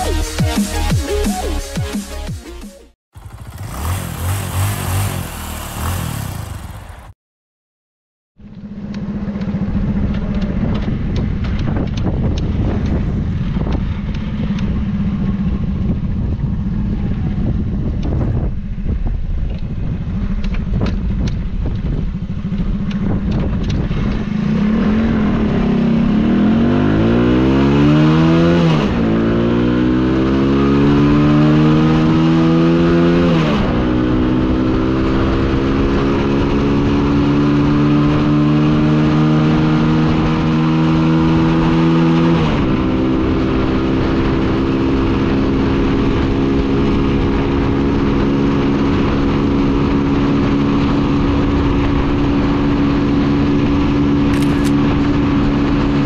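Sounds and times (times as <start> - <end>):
motorcycle engine accelerating: 3.1 - 7.2, 8.4 - 56.0
wind noise: 9.4 - 56.0.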